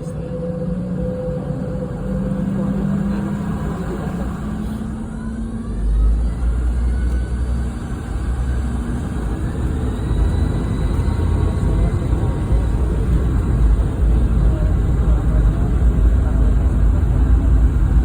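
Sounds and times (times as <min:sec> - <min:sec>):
faint rising whine: 0:00.0 - 0:18.0
jet engine cabin rumble: 0:00.0 - 0:18.0.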